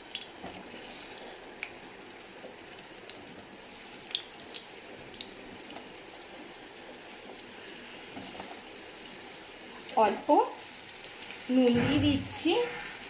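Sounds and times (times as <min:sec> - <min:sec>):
potatoes frying in hot oil: 0:00.0 - 0:13.0.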